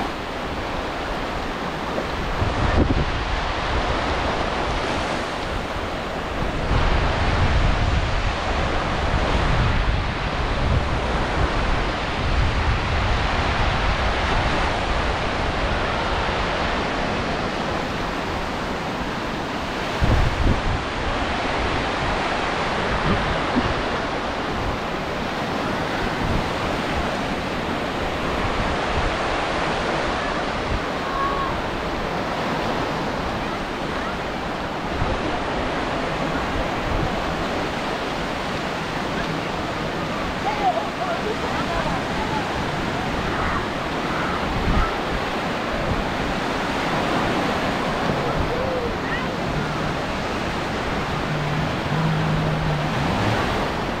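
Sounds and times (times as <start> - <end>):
surf washing onto a beach: 0.0 - 54.0
wind buffeting the microphone: 0.0 - 54.0.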